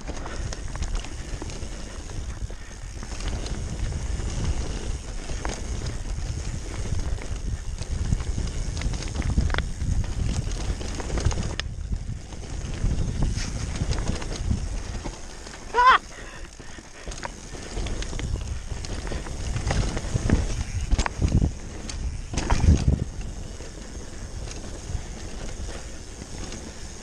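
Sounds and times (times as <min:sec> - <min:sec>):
bike knocking and rattling: 0:00.0 - 0:27.0
bike tyres rolling over dirt and stones: 0:00.0 - 0:27.0.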